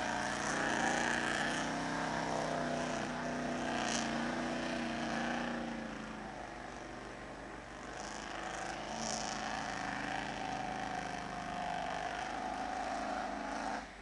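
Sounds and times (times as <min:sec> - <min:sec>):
steady whine: 0:00.0 - 0:14.0
truck engine running: 0:00.0 - 0:14.0.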